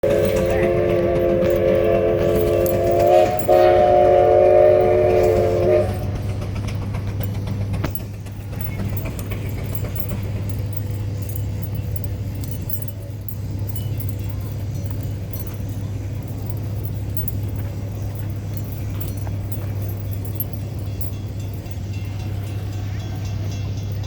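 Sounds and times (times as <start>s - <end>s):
engine droning: 0.0s - 24.0s.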